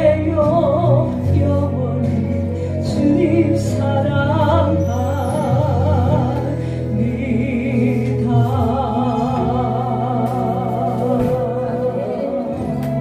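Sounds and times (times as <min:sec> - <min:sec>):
instrumental accompaniment: 0:00.0 - 0:13.0
person singing with vibrato: 0:00.0 - 0:13.0.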